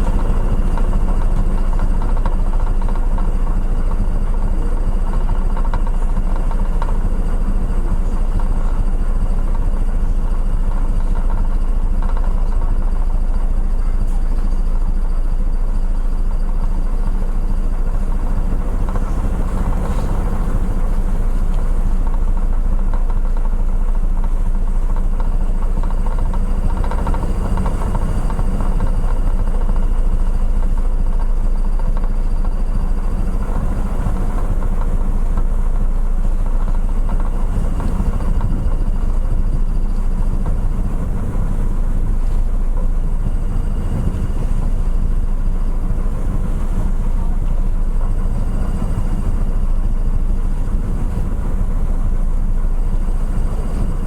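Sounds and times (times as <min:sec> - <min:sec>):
ferry engine low drone: 0:00.0 - 0:54.0.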